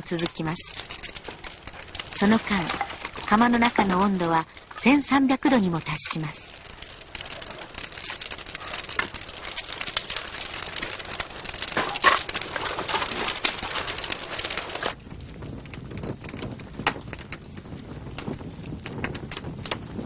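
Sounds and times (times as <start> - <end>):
low fire rumble with pops: 0.0 - 20.0
wood fire crackling: 0.0 - 20.0.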